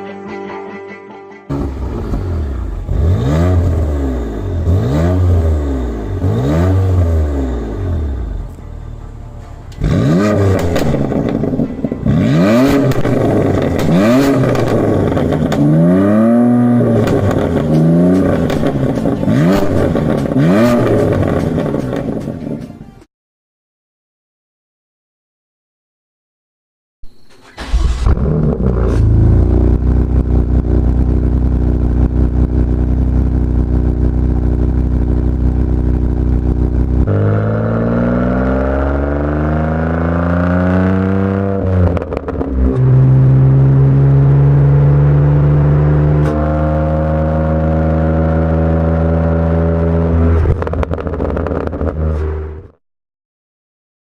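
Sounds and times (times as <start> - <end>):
car engine revving: 1.5 - 22.7, 27.4 - 52.8.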